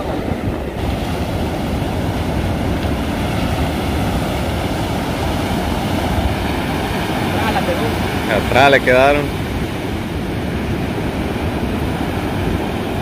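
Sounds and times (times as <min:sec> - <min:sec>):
ocean surf breaking: 0:00.0 - 0:13.0
wind rumbling on microphone: 0:00.0 - 0:13.0.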